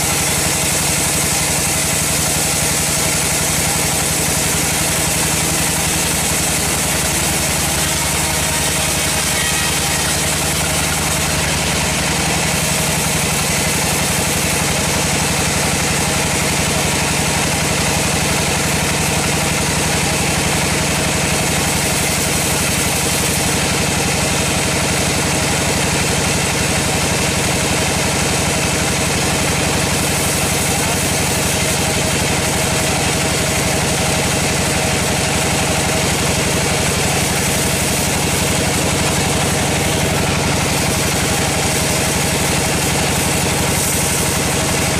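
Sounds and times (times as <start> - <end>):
band saw cutting log: 0.0 - 44.9.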